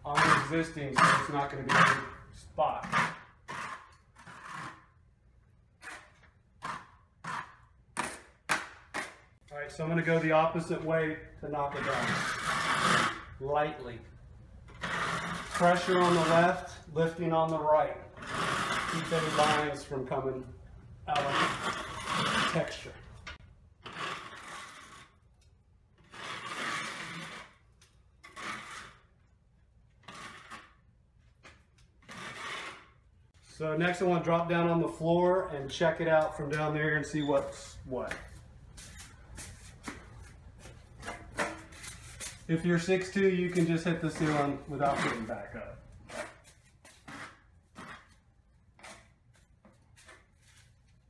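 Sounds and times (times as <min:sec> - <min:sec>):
taping knife scraping ceiling: 0:00.0 - 0:13.9, 0:14.6 - 0:20.5, 0:21.1 - 0:51.0.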